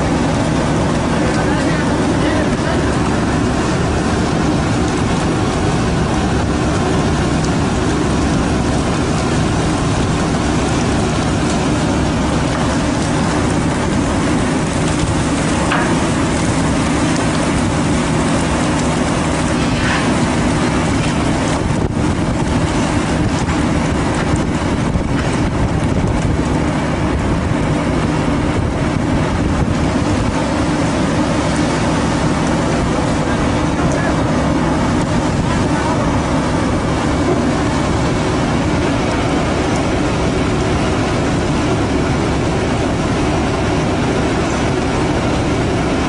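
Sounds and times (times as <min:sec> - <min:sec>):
boat engine drone: 0:00.0 - 0:46.0
continuous rushing noise: 0:00.0 - 0:46.0.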